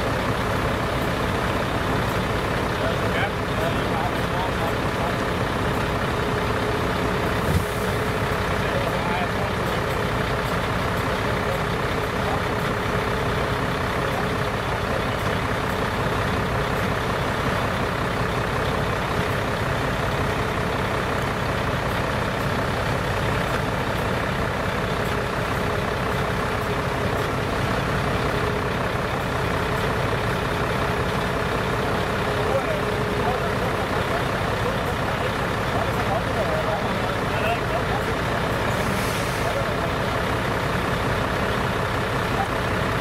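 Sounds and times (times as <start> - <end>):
fire engine idling: 0.0 - 43.0.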